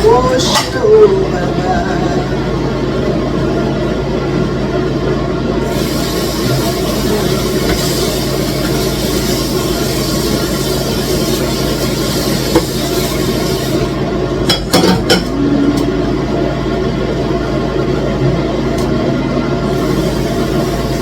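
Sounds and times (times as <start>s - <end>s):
stew cooking hum and hiss: 0.0s - 21.0s.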